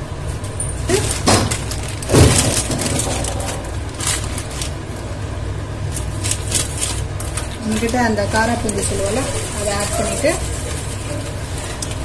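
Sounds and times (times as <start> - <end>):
steady low hum: 0.0 - 12.0
plastic packet crinkling: 0.8 - 5.1, 5.9 - 12.0.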